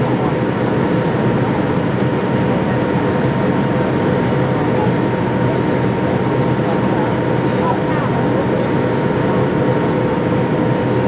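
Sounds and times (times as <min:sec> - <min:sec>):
airliner cabin roar: 0:00.0 - 0:11.0
constant engine hum: 0:00.0 - 0:11.0.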